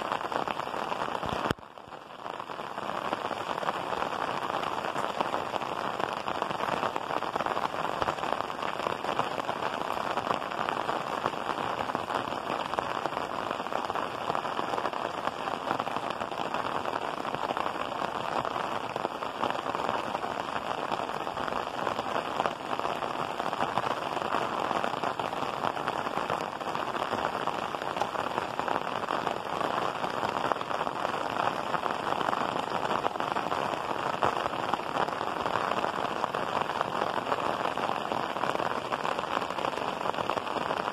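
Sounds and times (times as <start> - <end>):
heavy rain on tile roofs: 0.0 - 40.9.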